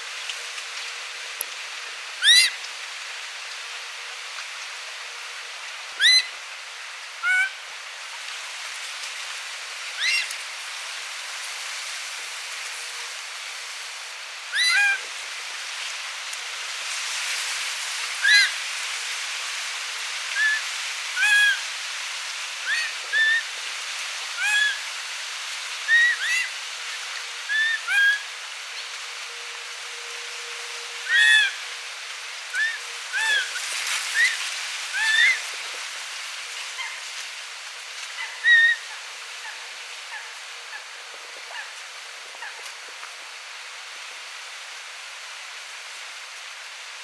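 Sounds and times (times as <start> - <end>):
background hiss: 0.0 - 47.0.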